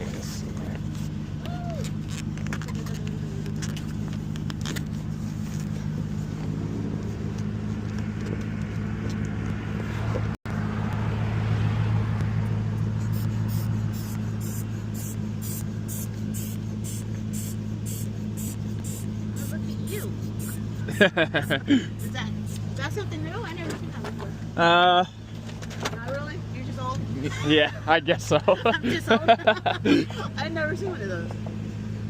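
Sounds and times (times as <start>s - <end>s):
vehicle engine idling: 0.0s - 32.0s.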